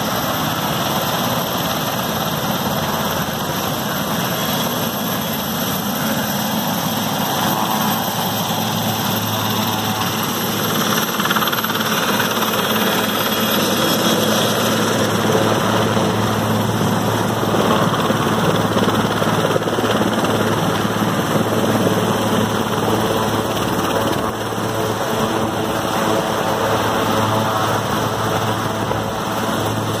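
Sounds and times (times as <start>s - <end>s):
helicopter rotor drone: 0.0s - 30.0s.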